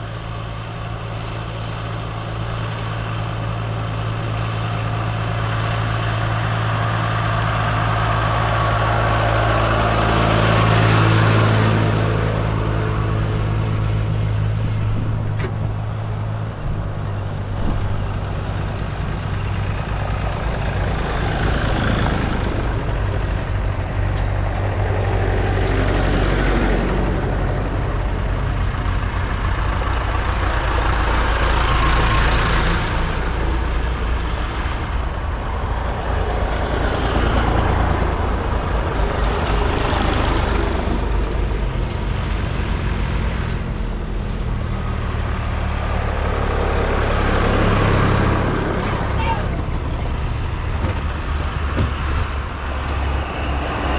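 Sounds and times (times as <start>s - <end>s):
tractor engines running: 0.0s - 53.9s
tractors driving past: 0.0s - 53.9s.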